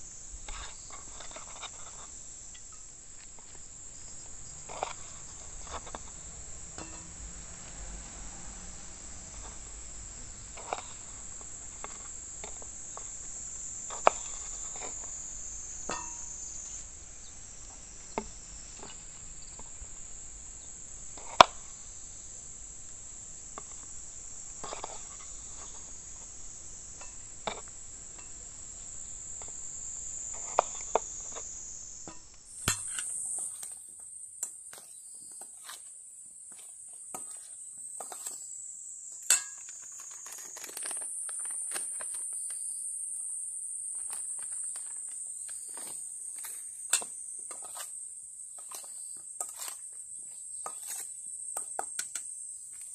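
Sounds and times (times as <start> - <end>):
insects shrilling: 0.0 - 6.9, 8.5 - 22.5, 23.1 - 52.9.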